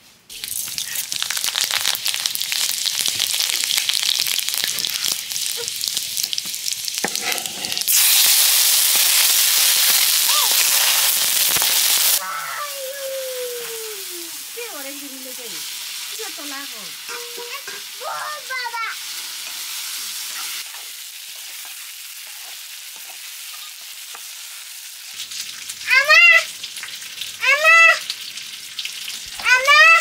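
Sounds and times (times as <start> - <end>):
curry sizzling in a pan: 0.3 - 30.0.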